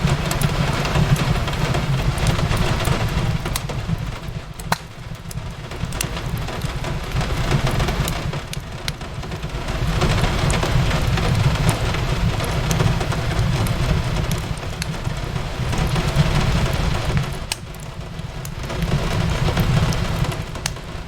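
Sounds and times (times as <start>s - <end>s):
fireplace crackling: 0.0s - 21.0s
steady rain: 0.0s - 21.0s.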